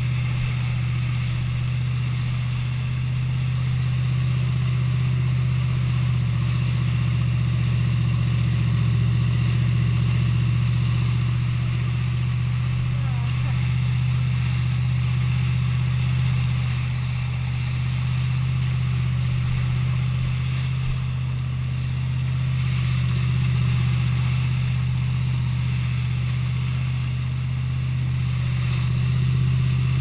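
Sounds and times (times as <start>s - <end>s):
boat engine drone: 0.0s - 30.0s
rushing wake water: 0.0s - 30.0s.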